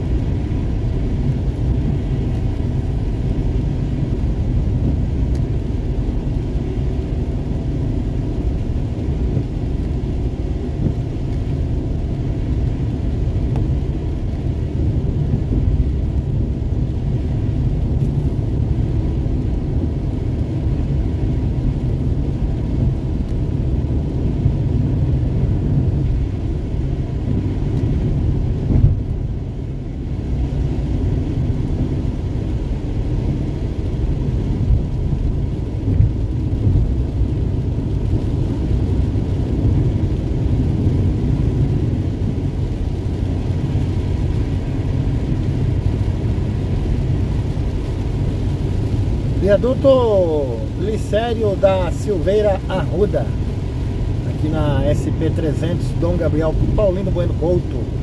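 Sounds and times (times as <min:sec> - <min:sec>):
tyres on wet road: 0:00.0 - 0:58.0.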